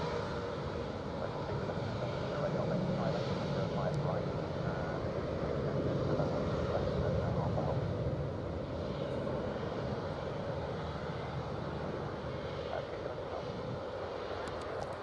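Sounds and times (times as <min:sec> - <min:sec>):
jet engines taxiing rumble: 0:00.0 - 0:15.0.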